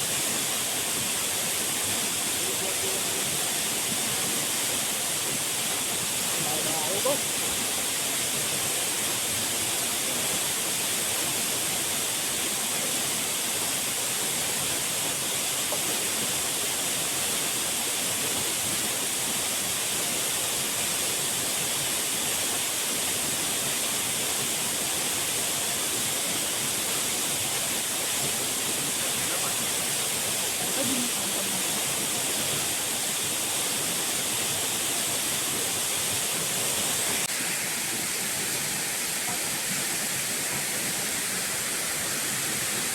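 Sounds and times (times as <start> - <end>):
rush of falling water: 0.0 - 42.9.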